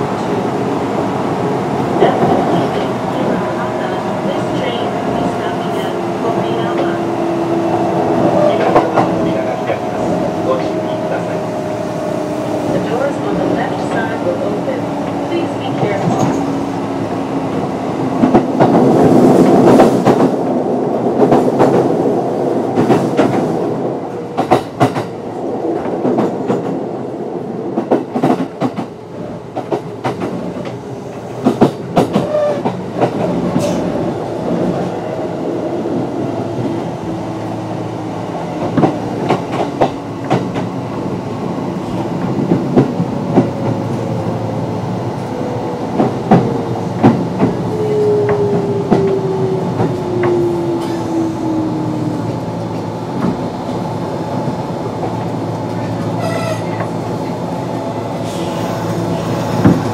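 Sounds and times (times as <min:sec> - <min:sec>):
train motors and wheels rumbling: 0:00.0 - 0:59.9.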